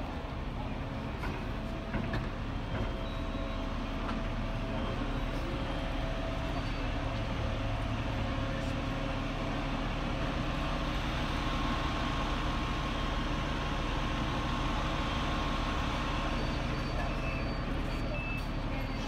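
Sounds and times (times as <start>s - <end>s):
fire truck engine idling: 0.0s - 19.0s.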